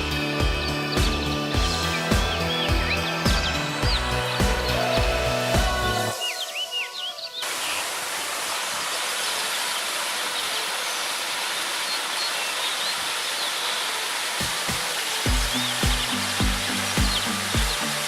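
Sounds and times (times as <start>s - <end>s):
waterfall rushing: 1.8s - 18.0s.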